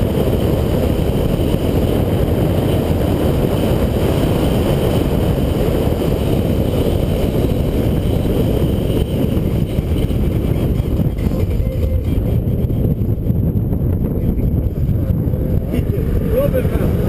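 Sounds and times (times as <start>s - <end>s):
car engine driving hard: 0.0s - 17.0s
tyres on road: 0.0s - 17.0s
wind buffeting microphone: 0.0s - 17.0s.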